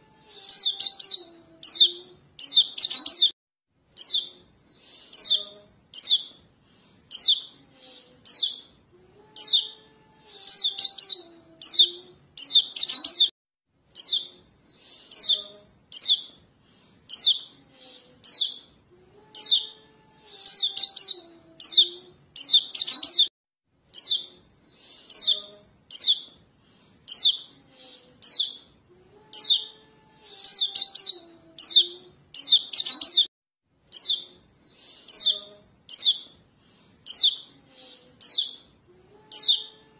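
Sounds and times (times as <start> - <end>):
bird chirping: 0.0 - 13.3, 13.9 - 23.3, 23.9 - 33.3, 33.9 - 39.9.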